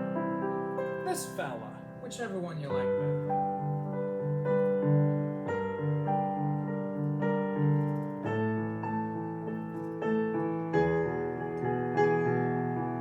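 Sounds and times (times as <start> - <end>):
digital piano chords: 0.0 - 13.0.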